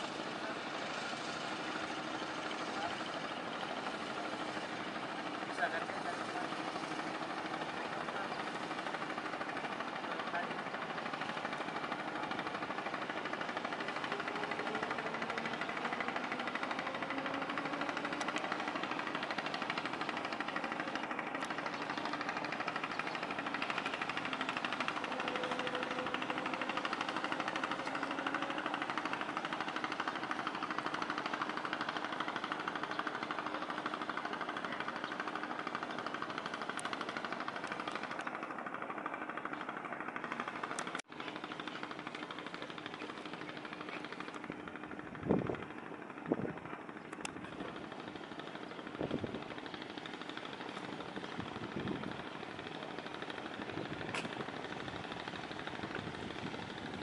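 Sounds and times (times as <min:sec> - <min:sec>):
boat engine clattering: 0:00.0 - 0:57.0.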